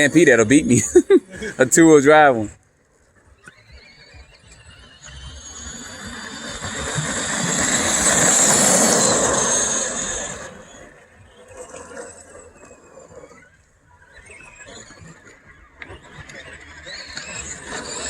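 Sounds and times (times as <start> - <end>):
rc trucks electric motors whining: 0.0 - 18.0
tyre and drivetrain noise: 0.0 - 18.0.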